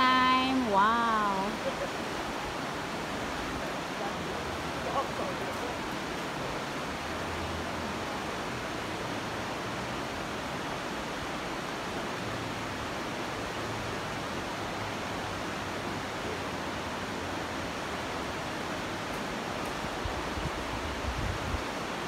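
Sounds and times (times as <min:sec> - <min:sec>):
river rushing over rapids: 0:00.0 - 0:22.0.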